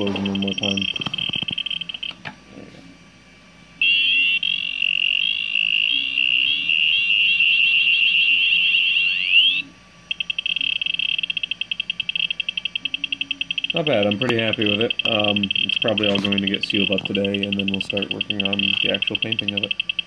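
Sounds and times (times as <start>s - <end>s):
rapid pulsing beep: 0.0s - 2.2s, 3.8s - 20.0s
warbling electronic buzzer tone: 0.0s - 2.2s, 3.8s - 20.0s.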